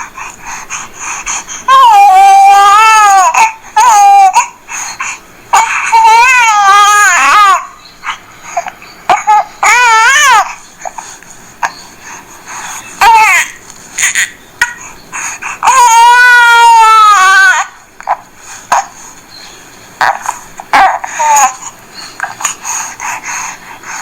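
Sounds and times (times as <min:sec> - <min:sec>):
recorded baby crying: 0:00.0 - 0:11.8, 0:12.5 - 0:19.0, 0:20.0 - 0:24.0.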